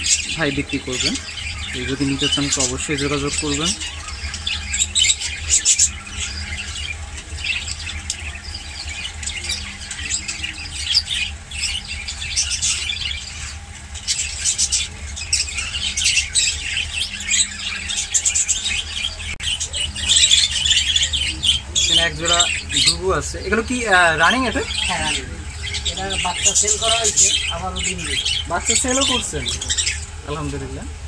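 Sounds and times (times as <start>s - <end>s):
parrots chirping and squawking: 0.0s - 31.0s
steady low hum: 0.0s - 31.0s.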